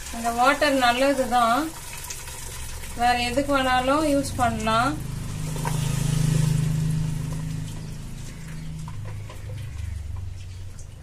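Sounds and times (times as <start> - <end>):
low steady hum: 0.0 - 11.0
water draining through colander: 0.0 - 11.0.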